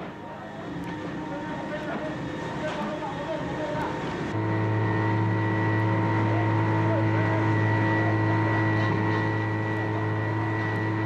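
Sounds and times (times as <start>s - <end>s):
low mechanical drone: 0.0s - 11.0s
steady tones: 0.7s - 11.0s.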